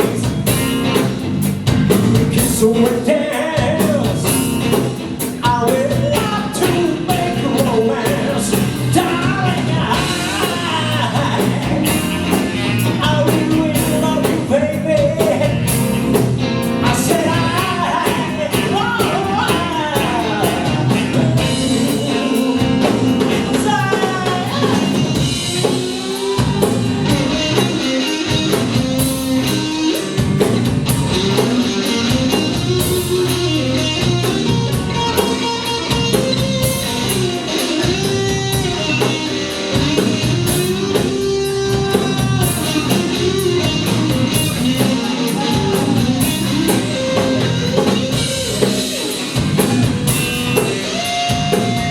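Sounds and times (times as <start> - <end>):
bass guitar: 0.0 - 51.9
drum kit: 0.0 - 51.9
lead guitar with bent notes: 6.0 - 51.9.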